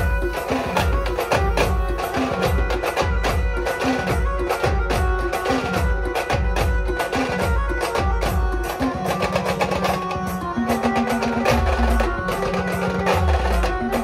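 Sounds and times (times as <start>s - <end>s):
fast dense drumming: 0.0s - 14.0s
held melody line: 0.0s - 14.0s.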